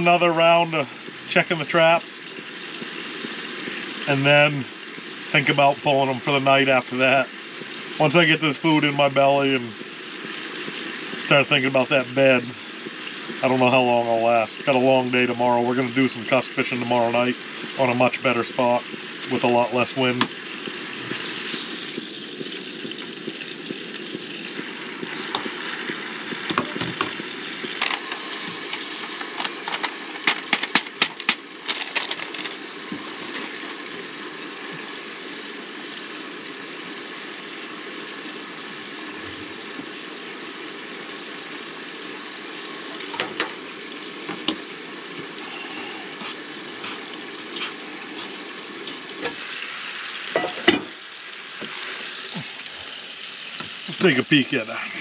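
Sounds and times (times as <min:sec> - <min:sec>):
steak sizzling in frying pan: 0:00.0 - 0:54.9.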